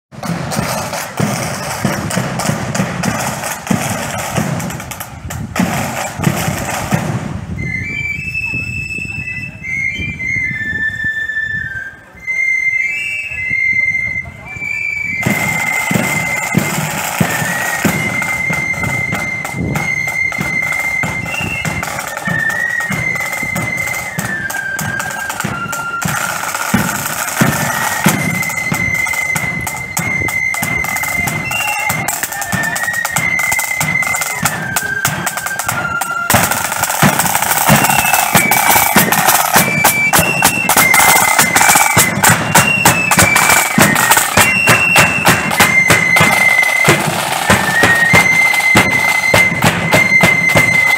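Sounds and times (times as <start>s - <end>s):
rattling side drums: 0.1s - 7.5s, 15.2s - 50.9s
flutes playing melody: 0.1s - 50.9s.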